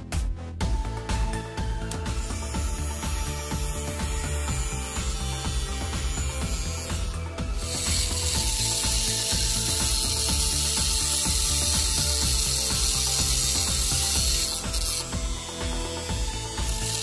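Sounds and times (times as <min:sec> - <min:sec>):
motor whine: 0:00.8 - 0:17.0
cutting disc grinding rod: 0:01.7 - 0:17.0.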